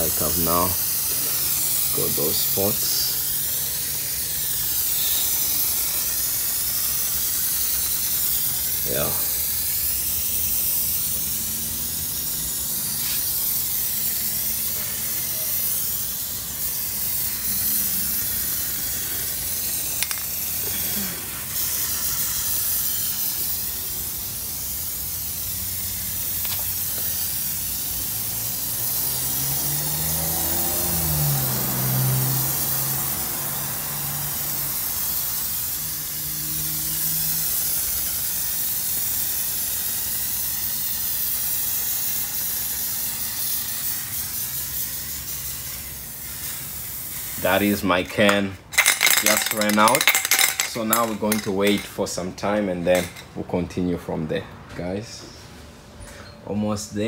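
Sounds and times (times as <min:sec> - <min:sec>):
aerosol can spraying: 0:00.0 - 0:51.9.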